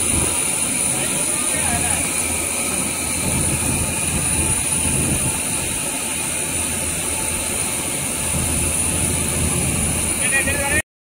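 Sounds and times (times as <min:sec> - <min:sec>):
boat engine droning: 0:00.0 - 0:10.8
faint high whine: 0:00.0 - 0:10.8.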